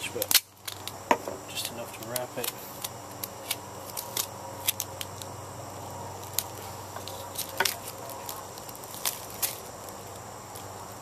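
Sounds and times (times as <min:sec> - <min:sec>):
duct tape wrapping: 0:00.0 - 0:11.0
foil balloon crinkling: 0:00.0 - 0:11.0.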